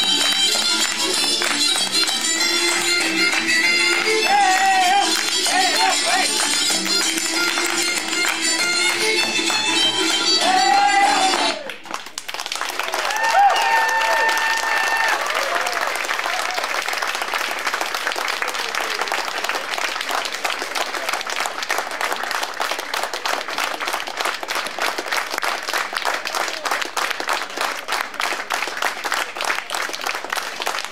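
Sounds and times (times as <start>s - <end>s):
rhythmic clapping in unison: 0.0s - 15.0s, 15.8s - 30.9s
audience applauding: 0.0s - 30.9s.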